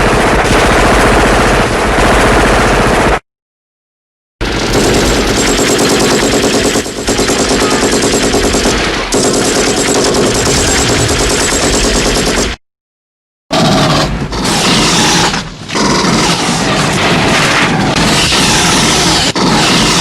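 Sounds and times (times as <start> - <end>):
rapid automatic gunfire: 0.0 - 3.2, 4.4 - 12.6, 13.5 - 20.0.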